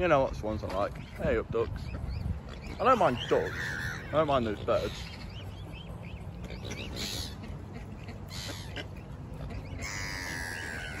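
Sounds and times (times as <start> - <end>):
ducks and swans calling: 0.0 - 11.0.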